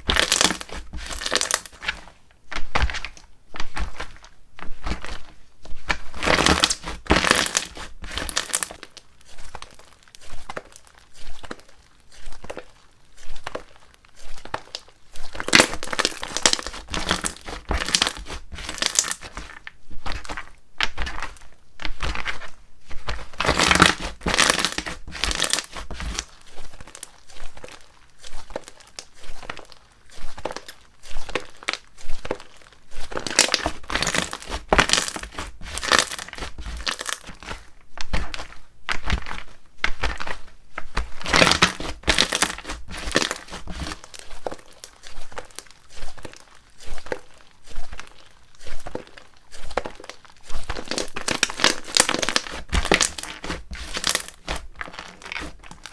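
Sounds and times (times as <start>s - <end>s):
slime squelching and crackling: 0.0s - 55.9s.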